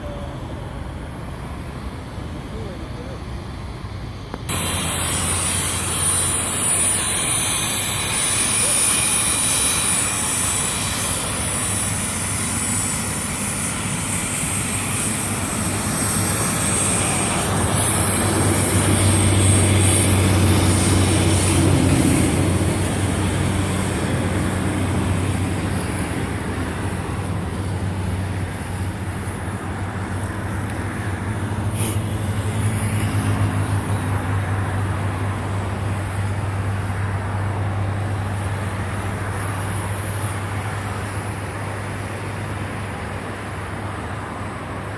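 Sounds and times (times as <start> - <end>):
high jet engine whine: 0.0 - 44.9
jet engines roaring: 0.0 - 44.9.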